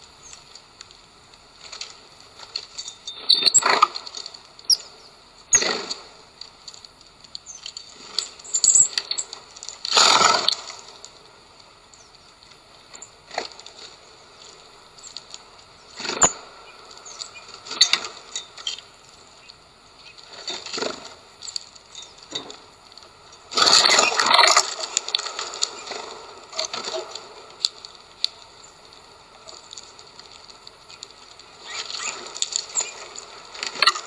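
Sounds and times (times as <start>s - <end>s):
beaks tapping on seeds and wood: 1.7s - 11.1s, 11.9s - 34.0s.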